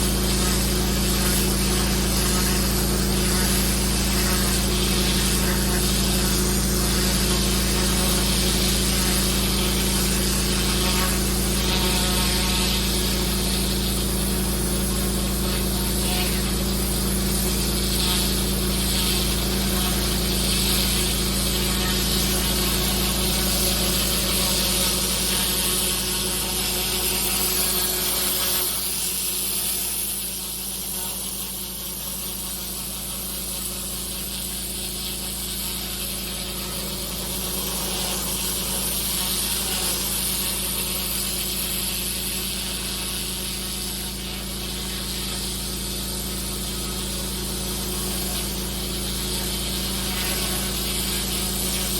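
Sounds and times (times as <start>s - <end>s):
pressure washer engine hum: 0.0s - 51.9s
water spray hissing on paving: 0.0s - 51.9s.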